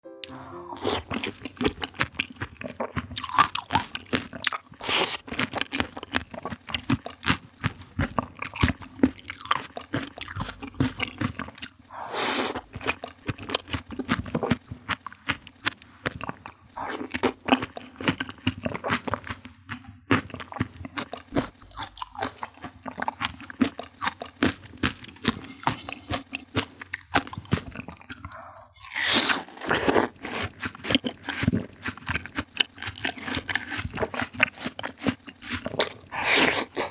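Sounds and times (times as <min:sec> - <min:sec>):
person biting and chewing fruit: 0:00.2 - 0:36.9.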